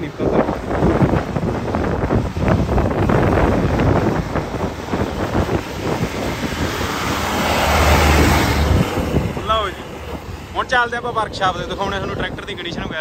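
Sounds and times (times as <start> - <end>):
tractor diesel engines chugging: 0.0 - 13.0
wind on microphone: 0.0 - 13.0.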